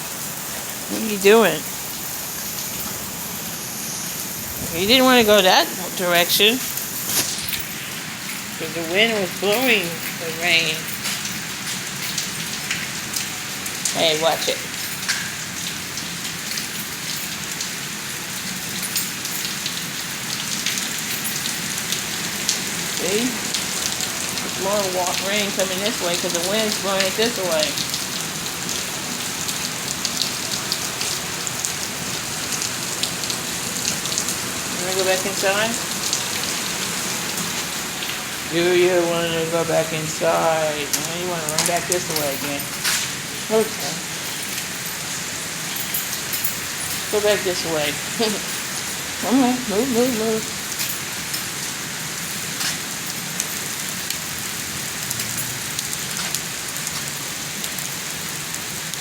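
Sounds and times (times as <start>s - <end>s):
raindrops pattering and splashing: 0.0s - 59.0s
steady rain falling: 0.0s - 59.0s.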